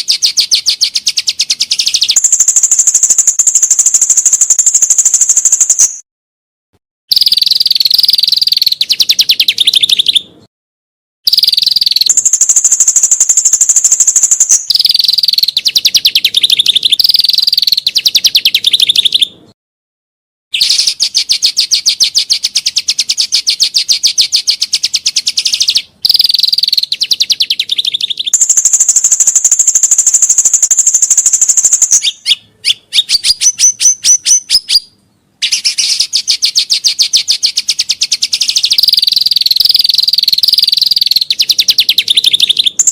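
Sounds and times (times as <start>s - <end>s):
clear whistled bird notes: 0.0s - 6.0s, 7.1s - 10.3s, 11.3s - 19.3s, 20.6s - 42.9s
songbird rapid trills: 0.0s - 6.0s, 11.3s - 19.3s, 20.6s - 34.8s, 35.4s - 42.9s.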